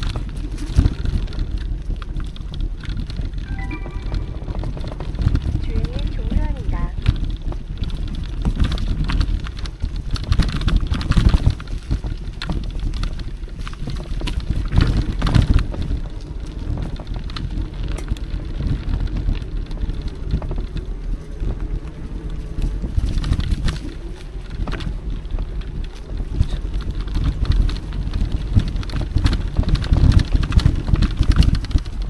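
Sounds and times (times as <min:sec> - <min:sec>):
tyres rumbling on trail: 0:00.0 - 0:03.4, 0:05.0 - 0:32.0
wind buffeting microphone: 0:04.5 - 0:32.0
small clicks and rattles: 0:05.6 - 0:32.0.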